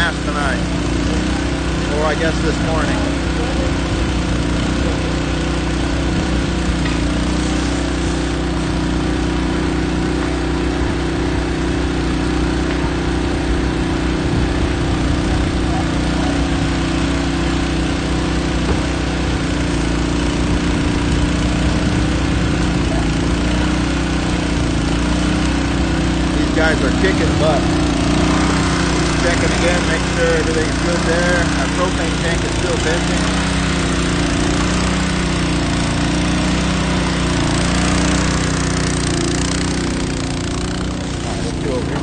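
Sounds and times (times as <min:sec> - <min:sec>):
small pump engine running: 0:00.0 - 0:42.0.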